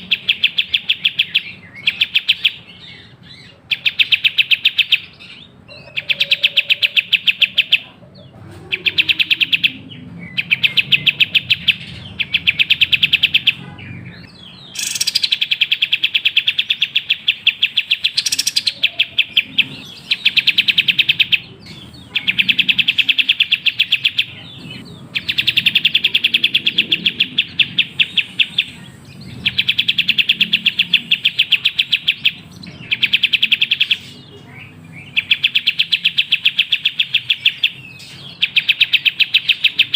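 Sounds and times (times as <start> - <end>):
songbird chattering: 0.0 - 39.9.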